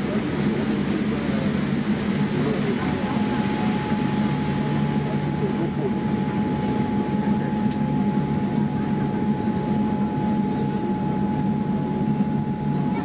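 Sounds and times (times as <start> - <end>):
aircraft cabin engine hum: 0.0 - 13.0.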